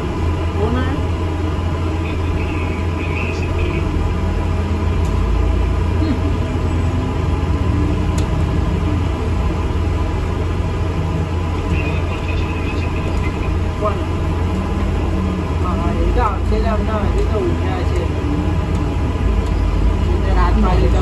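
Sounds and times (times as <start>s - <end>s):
bus engine droning: 0.0s - 21.0s.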